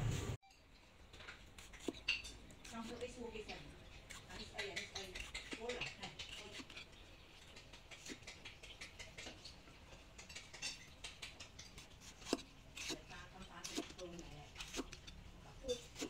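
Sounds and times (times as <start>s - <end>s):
cleaver slicing tomatoes: 1.5s - 9.4s, 10.2s - 16.0s.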